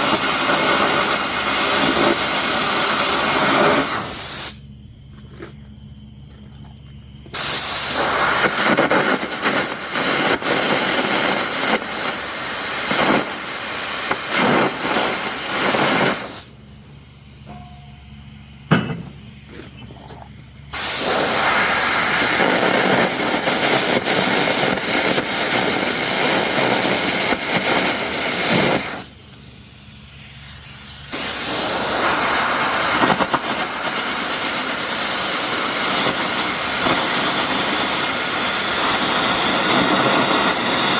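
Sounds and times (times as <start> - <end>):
arc gouging torch with air blast: 0.0 - 4.7, 7.3 - 17.4, 18.3 - 40.9.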